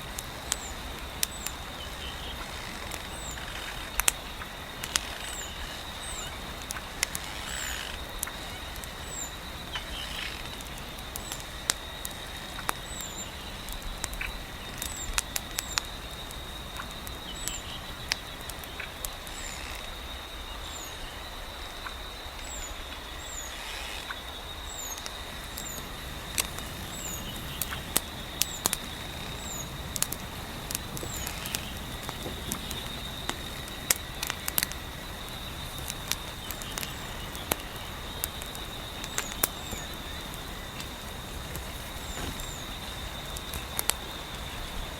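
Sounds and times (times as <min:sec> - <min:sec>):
wood fire crackling: 0:00.0 - 0:20.3, 0:24.2 - 0:44.9
low wind: 0:00.0 - 0:44.9.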